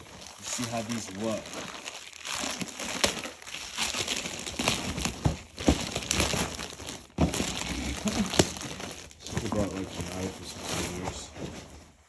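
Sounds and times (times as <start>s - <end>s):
plastic bag crinkling and tearing: 0.0s - 11.4s.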